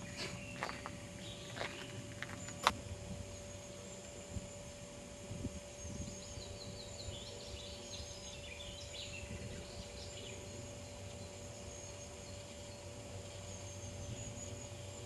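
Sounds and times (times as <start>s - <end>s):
songbird chirping: 0.0s - 4.8s, 5.6s - 15.0s
faint steady hum: 0.0s - 15.0s
outdoor background noise: 0.0s - 15.0s.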